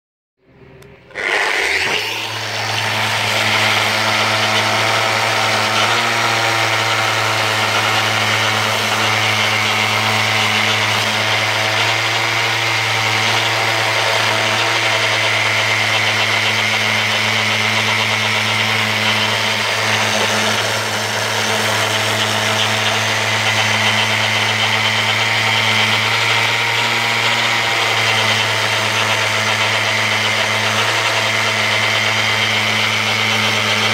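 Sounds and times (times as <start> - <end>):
sander humming and whining: 0.8 - 33.9
sander pad rasping paint off wood: 1.1 - 33.9.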